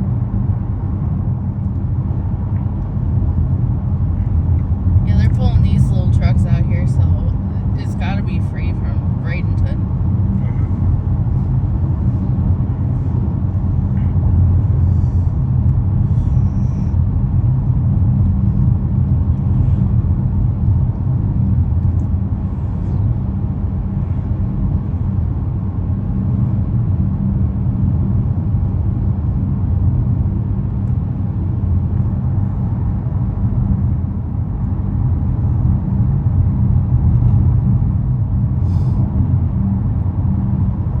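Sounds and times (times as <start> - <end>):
car driving road and engine noise: 0.0 - 41.0.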